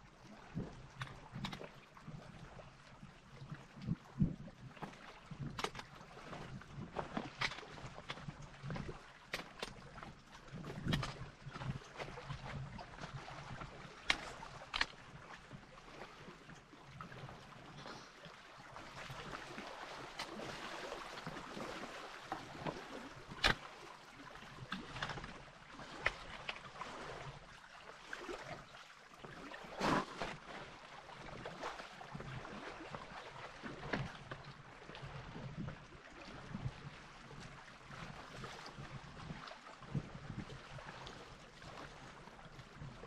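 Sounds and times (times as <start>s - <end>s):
small waves lapping on rocks: 0.0s - 43.0s.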